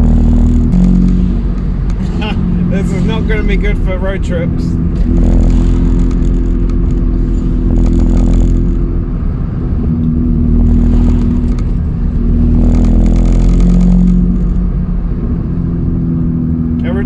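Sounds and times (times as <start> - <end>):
car engine drone in cabin: 0.0 - 17.0.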